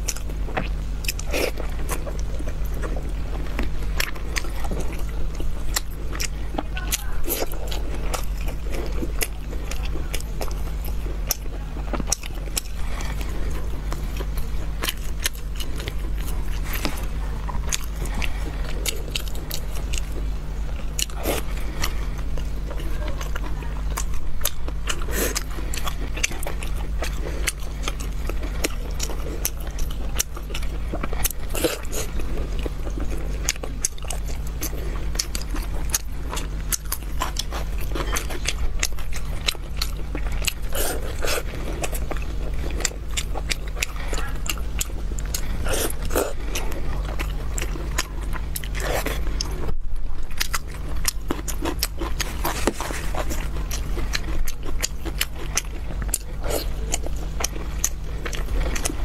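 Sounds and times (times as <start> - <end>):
chewing and biting meat: 0.0 - 59.0
steady low hum: 0.0 - 59.0.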